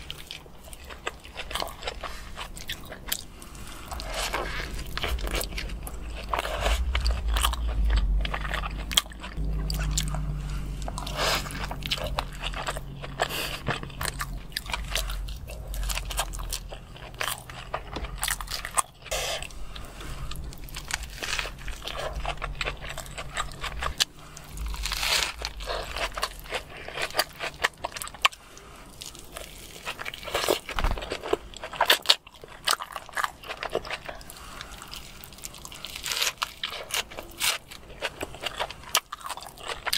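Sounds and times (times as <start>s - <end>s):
mouth clicks and crunches: 0.0s - 39.9s
person chewing a burger: 0.0s - 39.9s.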